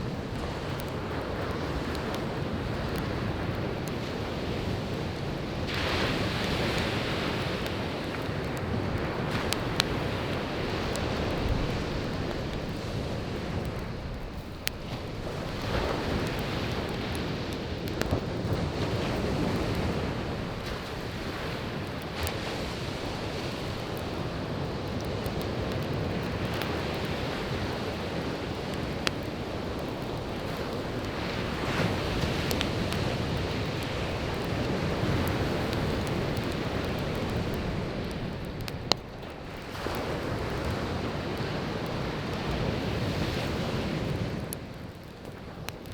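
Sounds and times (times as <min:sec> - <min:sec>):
campfire popping: 0:00.0 - 0:45.9
waves breaking on a beach: 0:00.0 - 0:45.9.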